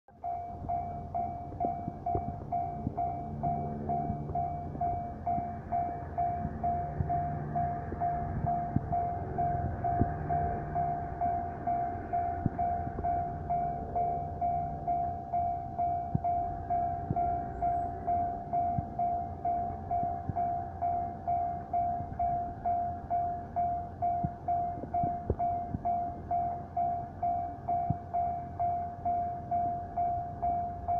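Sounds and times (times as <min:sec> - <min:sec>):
level-crossing warning bell: 0:00.1 - 0:30.9
low rumble: 0:00.1 - 0:30.9.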